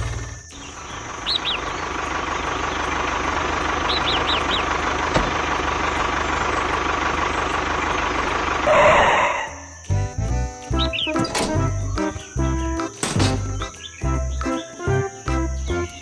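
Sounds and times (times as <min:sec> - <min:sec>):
birds chirping: 0:00.0 - 0:16.0
small engine running: 0:00.0 - 0:16.0.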